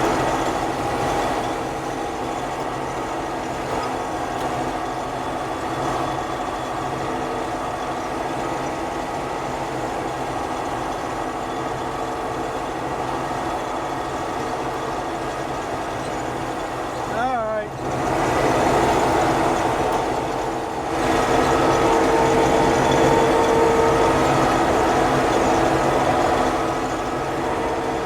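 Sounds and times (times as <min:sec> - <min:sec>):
combine harvester running: 0:00.0 - 0:28.0.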